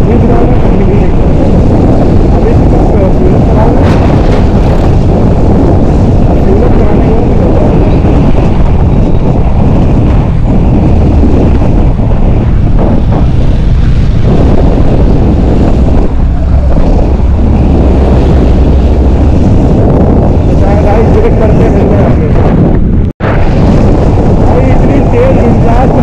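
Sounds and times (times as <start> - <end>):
motorcycle engine: 0.0 - 26.0
wind rumble on microphone: 0.0 - 26.0.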